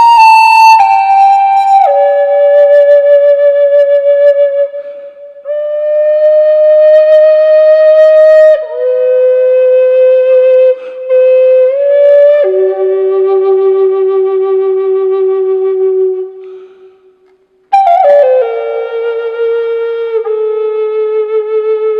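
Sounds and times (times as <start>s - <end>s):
flute slow melody: 0.0s - 21.9s.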